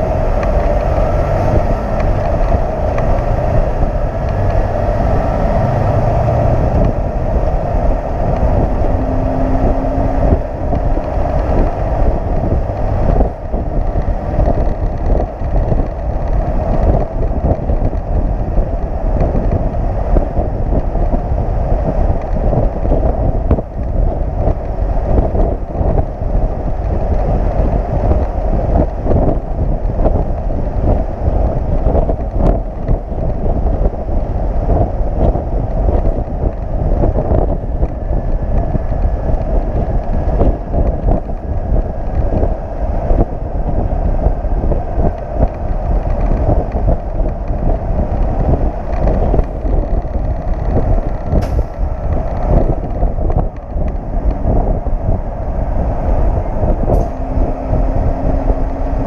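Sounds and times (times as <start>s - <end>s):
road noise: 0.0s - 59.0s
wind buffeting microphone: 0.0s - 59.0s.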